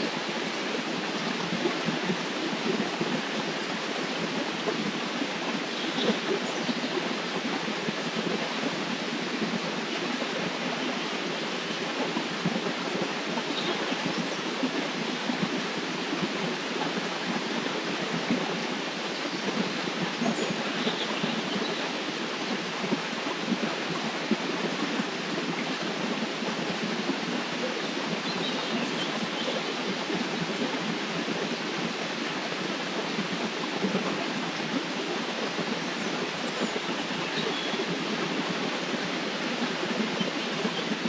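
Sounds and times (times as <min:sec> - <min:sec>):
river water flowing: 0:00.0 - 0:41.0.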